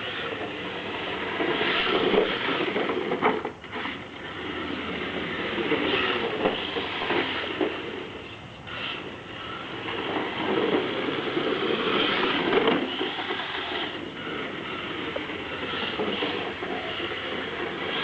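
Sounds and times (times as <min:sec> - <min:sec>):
toy car tyres rattling on rough surface: 0:00.0 - 0:18.0.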